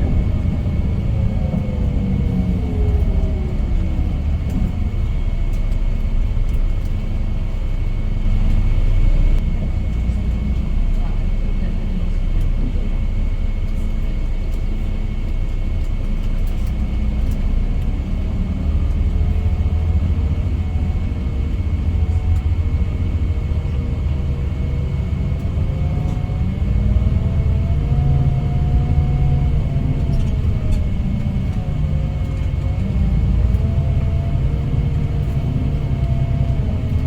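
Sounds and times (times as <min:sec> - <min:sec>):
coach engine and road rumble: 0:00.0 - 0:37.0.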